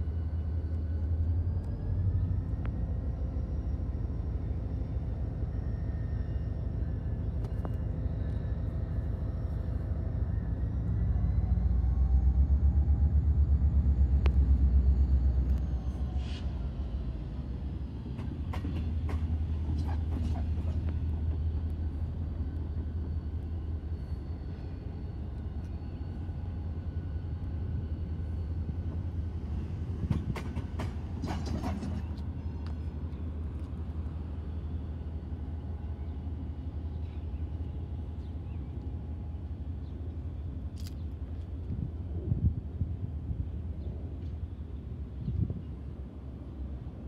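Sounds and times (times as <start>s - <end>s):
diesel locomotive drone: 0.0s - 47.0s.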